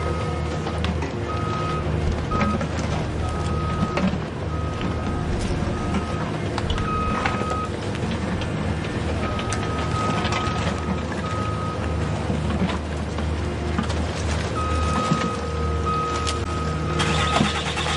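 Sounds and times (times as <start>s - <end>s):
construction vehicle engine hum: 0.0s - 17.9s.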